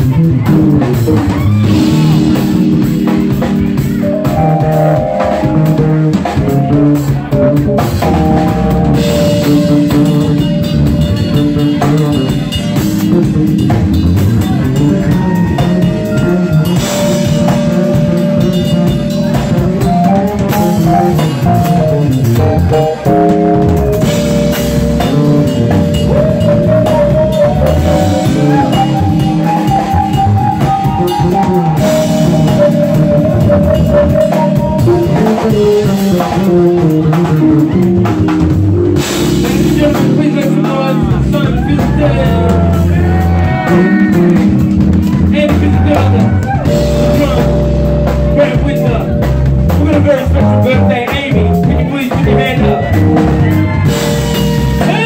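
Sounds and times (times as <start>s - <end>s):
drum kit: 0.0s - 55.0s
guitar: 0.0s - 55.0s
keyboard melody: 0.0s - 55.0s.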